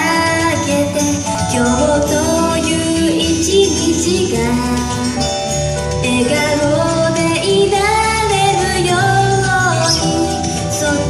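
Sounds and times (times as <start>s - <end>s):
pop song with female vocals: 0.0s - 11.0s.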